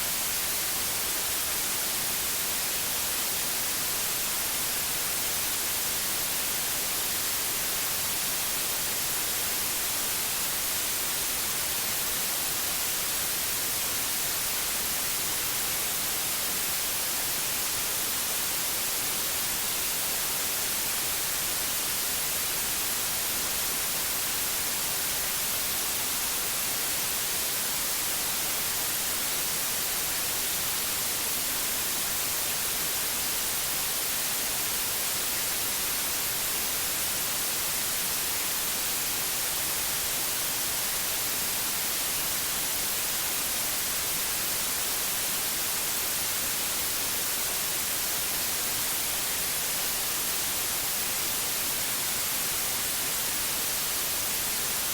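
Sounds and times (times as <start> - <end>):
white noise hiss: 0.0 - 54.9.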